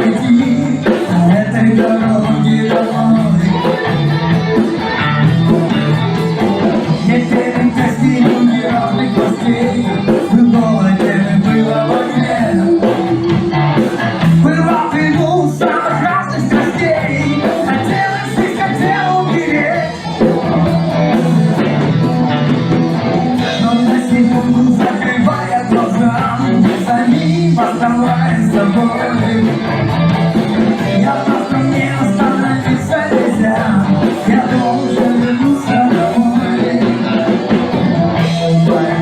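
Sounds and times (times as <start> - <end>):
person singing: 0.0 - 22.2, 23.0 - 39.0
rock band playing: 0.0 - 39.0.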